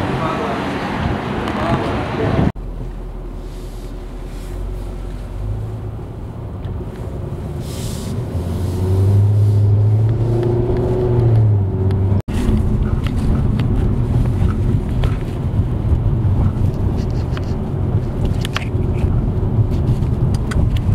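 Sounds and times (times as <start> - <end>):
car engine running: 2.5 - 20.9.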